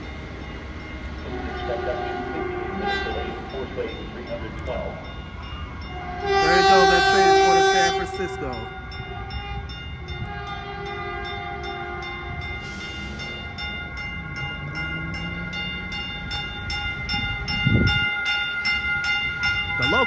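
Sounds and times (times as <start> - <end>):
crossing warning bells ringing: 0.0 - 20.0
train rumbling: 0.0 - 20.0.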